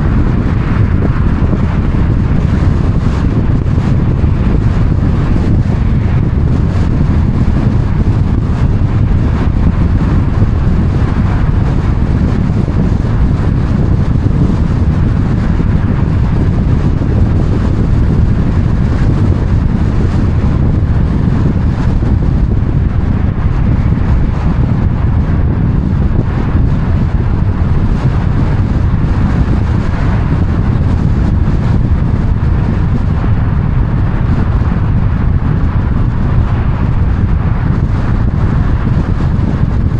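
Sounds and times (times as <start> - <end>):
moving vehicle running noise: 0.0 - 39.9
wind buffeting microphone: 0.0 - 39.9.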